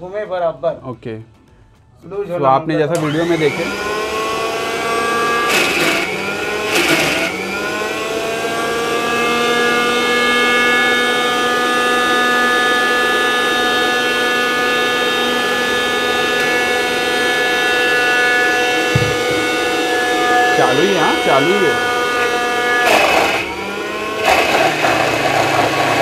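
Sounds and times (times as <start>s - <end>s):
mixer grinder motor whine: 2.9s - 26.0s.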